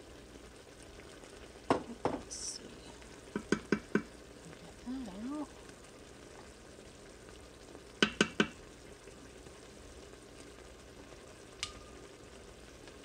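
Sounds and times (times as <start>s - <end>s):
sauce sizzling in pot: 0.0s - 13.0s.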